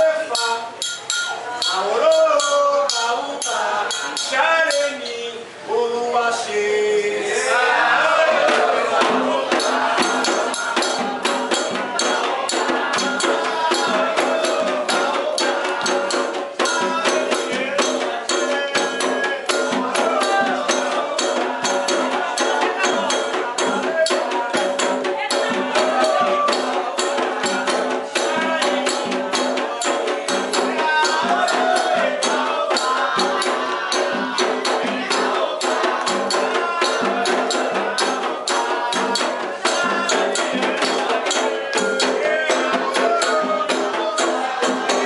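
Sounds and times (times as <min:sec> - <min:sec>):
fast percussion with shakers: 0:00.0 - 0:05.4, 0:07.4 - 0:45.0
group singing a chant: 0:00.0 - 0:45.0.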